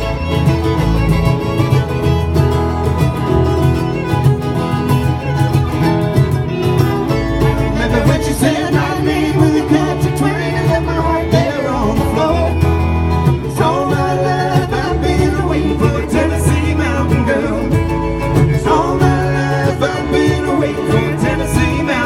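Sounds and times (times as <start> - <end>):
string band playing country song: 0.0 - 22.0
walking bass line: 0.0 - 22.0.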